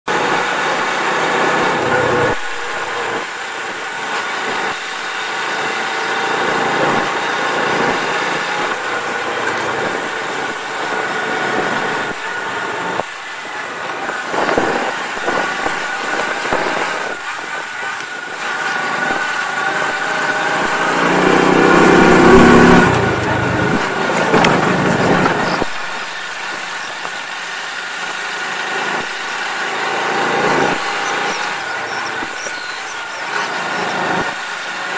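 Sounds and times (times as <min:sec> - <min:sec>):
moped engine running: 0:00.1 - 0:34.9.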